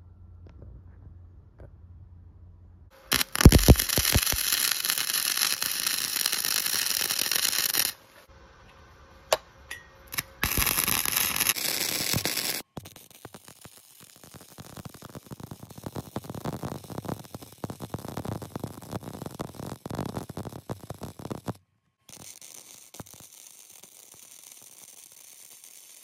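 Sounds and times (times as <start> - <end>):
welder arc crackling and hissing: 3.0 - 8.2, 10.1 - 26.0.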